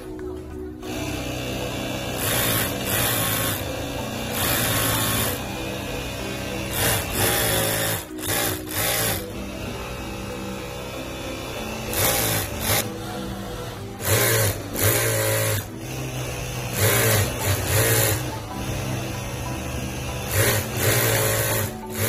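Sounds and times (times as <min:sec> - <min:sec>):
sewing machine stitching: 0:00.8 - 0:22.0.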